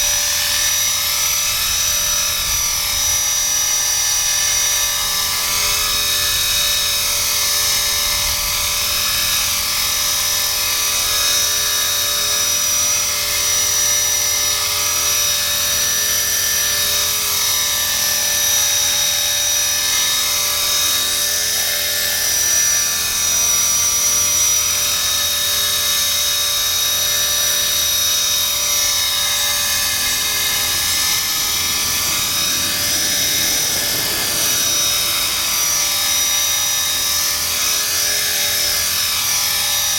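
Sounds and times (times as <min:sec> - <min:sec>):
rc helicopter hovering whine: 0:00.0 - 0:39.9.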